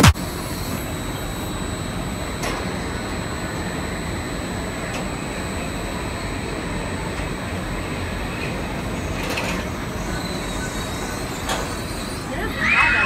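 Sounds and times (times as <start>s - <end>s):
roller coaster chain lift running: 2.1s - 13.0s.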